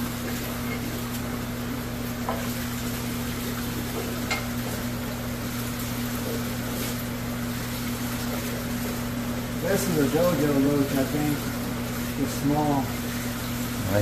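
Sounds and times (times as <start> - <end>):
air pumps and filters humming: 0.0 - 14.0.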